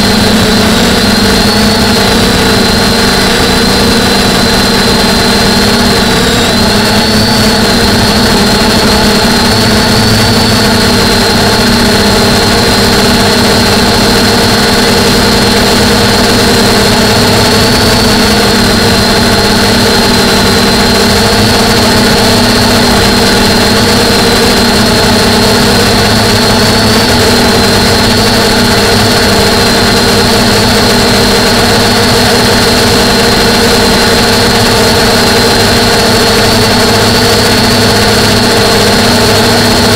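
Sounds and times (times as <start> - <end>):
quadcopter motors droning: 0.0 - 39.9.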